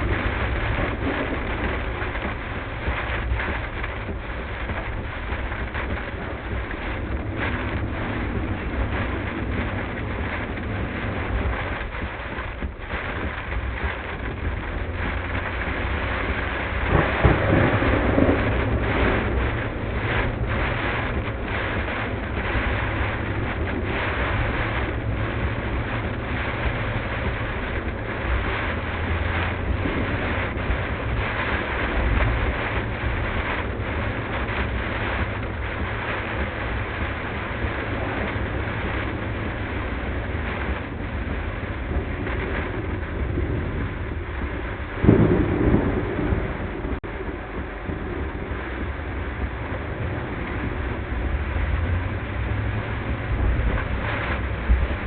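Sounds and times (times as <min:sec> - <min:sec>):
rain hitting a car: 0:00.0 - 0:55.0
road and engine drone: 0:00.0 - 0:55.0
tyres hissing on wet road: 0:00.0 - 0:55.0.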